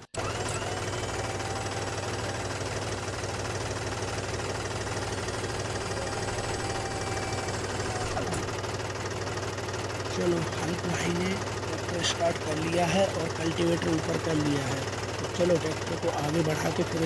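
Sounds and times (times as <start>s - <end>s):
mini tractor idling: 0.0s - 17.0s.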